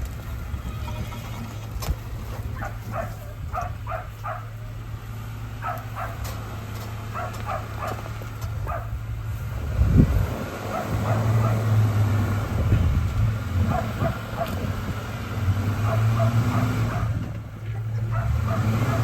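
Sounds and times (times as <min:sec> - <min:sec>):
car engine running: 0:01.5 - 0:19.0.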